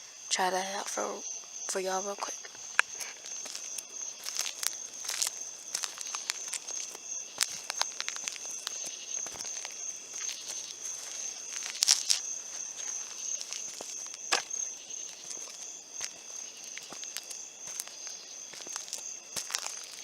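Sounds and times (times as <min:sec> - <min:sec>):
high insect drone: 0:00.0 - 0:20.0
footsteps crunching outdoors: 0:00.6 - 0:20.0.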